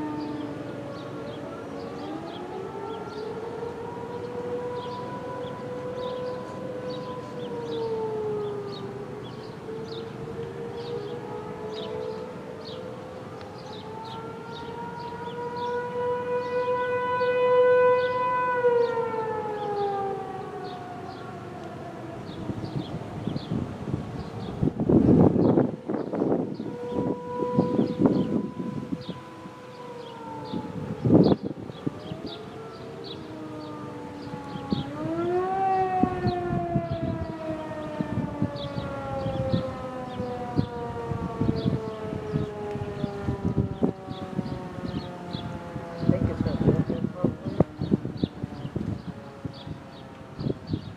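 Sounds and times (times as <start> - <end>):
warning siren wailing: 0.0 - 50.9.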